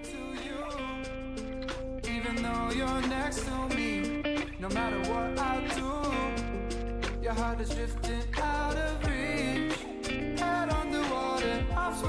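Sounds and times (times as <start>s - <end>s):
instrumental music with held chords: 0.0s - 12.0s.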